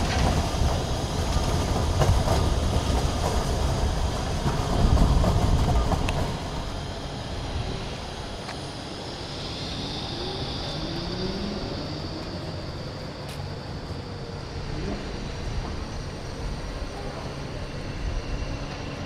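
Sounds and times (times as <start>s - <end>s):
tram rolling: 0.0s - 19.0s.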